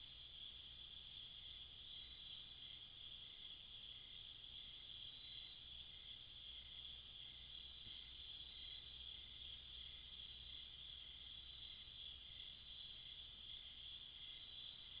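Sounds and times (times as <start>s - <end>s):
crickets trilling: 0.0s - 15.0s
softer pulsing insect call: 0.0s - 15.0s.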